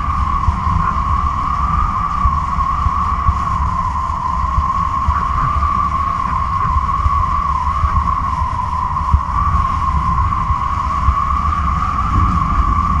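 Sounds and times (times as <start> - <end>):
wavering whistling hum: 0.0 - 13.0
wind buffeting rumble: 0.0 - 13.0.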